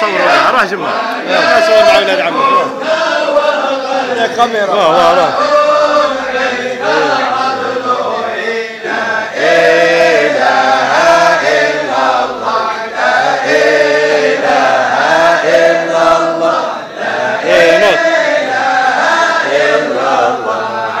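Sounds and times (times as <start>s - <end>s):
group of men chanting: 0.0s - 21.0s.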